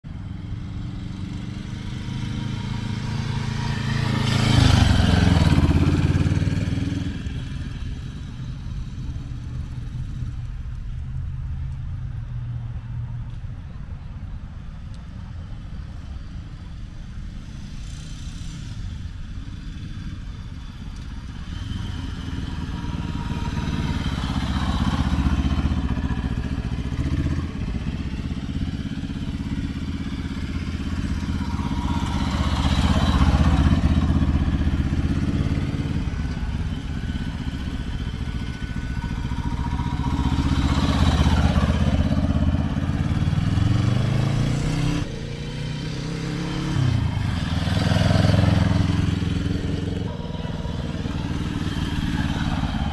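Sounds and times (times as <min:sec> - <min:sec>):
motorcycle engine running: 0:00.0 - 0:10.8, 0:17.8 - 0:52.9.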